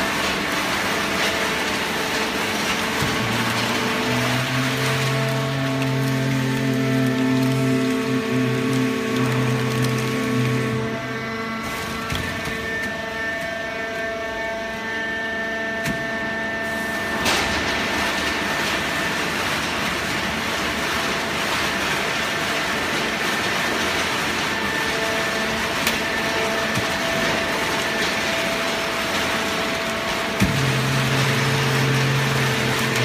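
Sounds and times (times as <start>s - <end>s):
baler mechanical hum: 0.0s - 33.0s.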